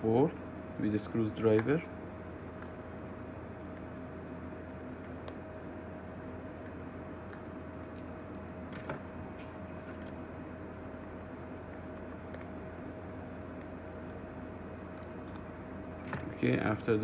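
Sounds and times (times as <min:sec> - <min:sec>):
faint constant whine: 0:00.0 - 0:17.0
steady background hum: 0:00.0 - 0:17.0.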